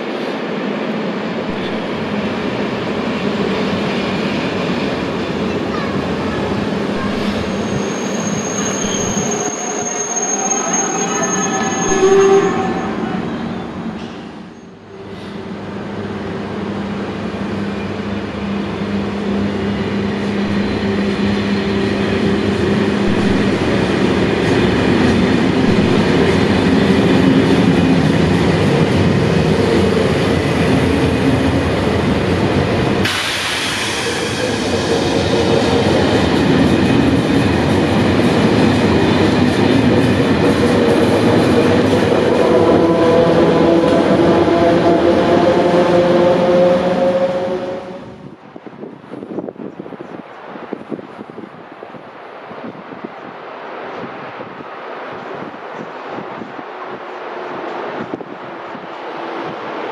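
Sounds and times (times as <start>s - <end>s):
train wheels rumbling: 0.0s - 49.6s
train humming: 0.0s - 59.9s.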